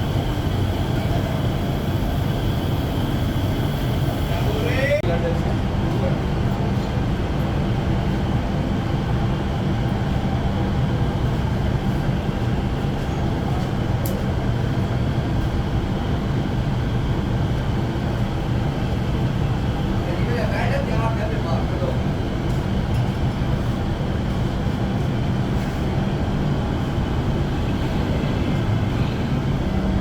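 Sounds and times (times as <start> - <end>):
workshop machinery drone: 0.0 - 30.0.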